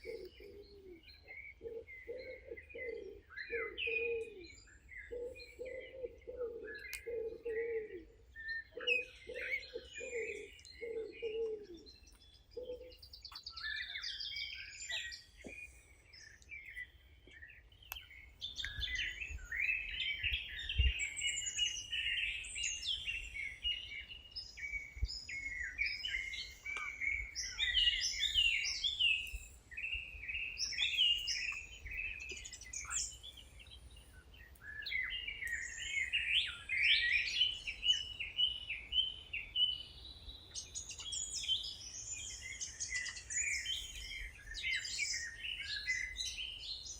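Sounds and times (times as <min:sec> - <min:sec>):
birds chirping and trilling: 0:00.0 - 0:46.9.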